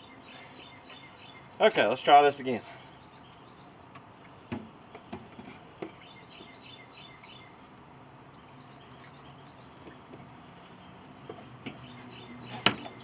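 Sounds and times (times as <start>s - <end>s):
bird chirping: 0.0s - 13.0s
faint outdoor background noise: 0.0s - 13.0s.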